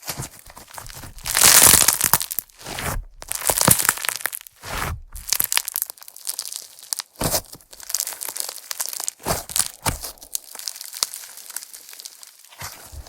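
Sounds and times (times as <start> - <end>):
slime crackling and popping: 0.7 - 13.0.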